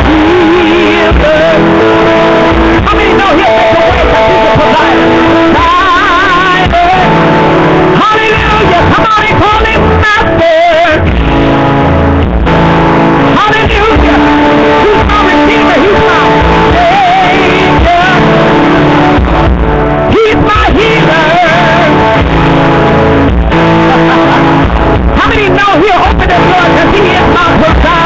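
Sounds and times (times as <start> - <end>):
person singing: 0.0 - 11.6, 13.0 - 28.0
church worship music chords: 0.0 - 28.0.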